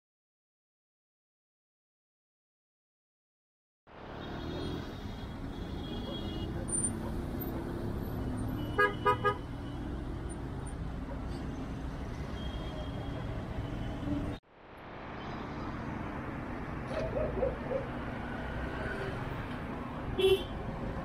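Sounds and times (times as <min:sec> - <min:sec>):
road traffic hum: 0:03.9 - 0:21.0.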